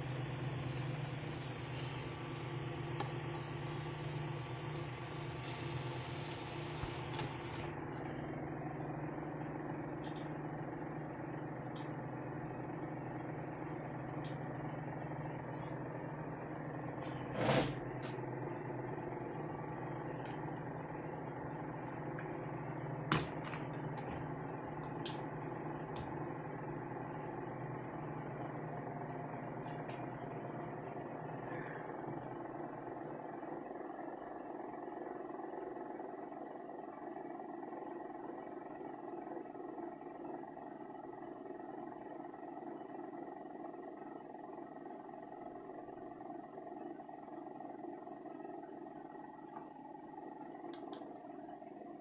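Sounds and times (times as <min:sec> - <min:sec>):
game console humming: 0:00.0 - 0:52.0.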